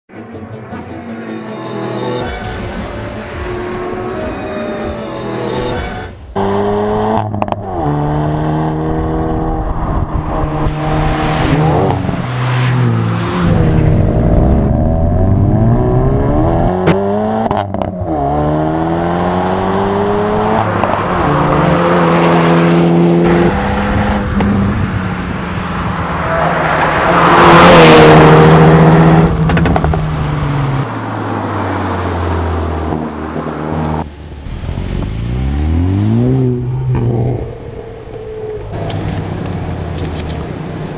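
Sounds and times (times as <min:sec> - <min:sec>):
car engine accelerating hard: 0:02.4 - 0:40.9.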